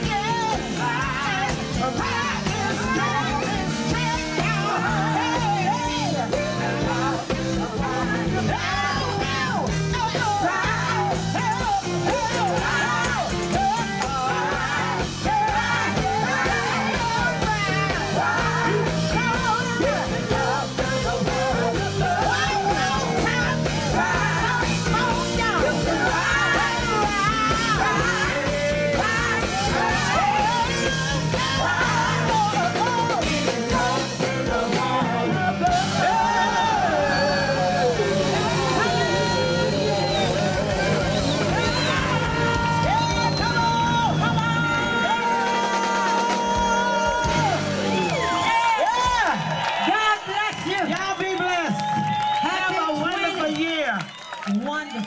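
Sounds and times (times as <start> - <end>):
live band music: 0.0 - 55.0
voices singing and shouting: 0.0 - 55.0.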